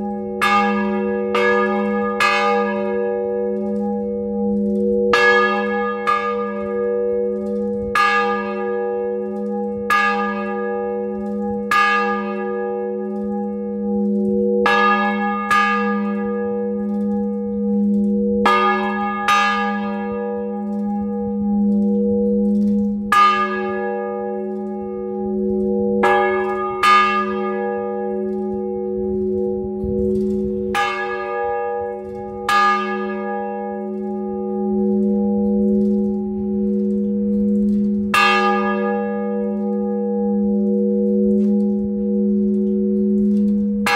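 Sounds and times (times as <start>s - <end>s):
church bells ringing: 0.0s - 43.9s
hum of bells ringing: 0.0s - 43.9s.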